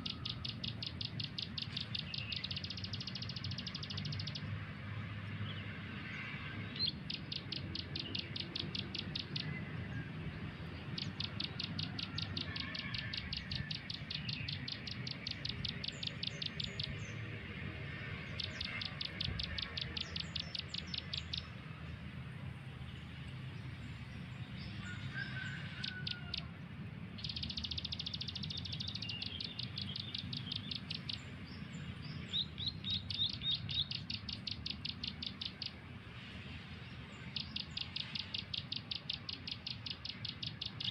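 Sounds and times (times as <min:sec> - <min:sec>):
small bird calling in fast trills: 0:00.0 - 0:04.5, 0:06.1 - 0:21.6, 0:24.8 - 0:36.1, 0:37.1 - 0:40.9.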